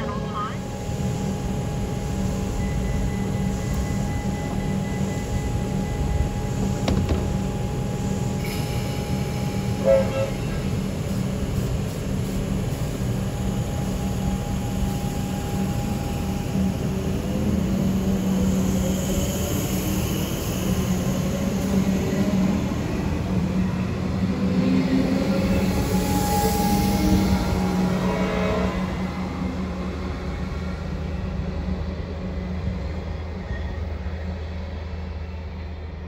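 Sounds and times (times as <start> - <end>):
electric train pulling away: 0.0 - 34.5.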